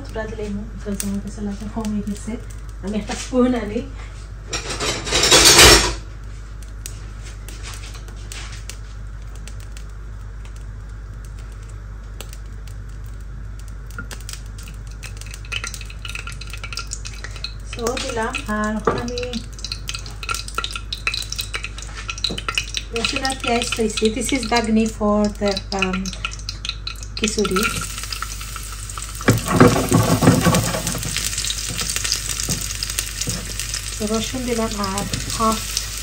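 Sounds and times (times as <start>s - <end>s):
light sizzle: 0.0s - 36.0s.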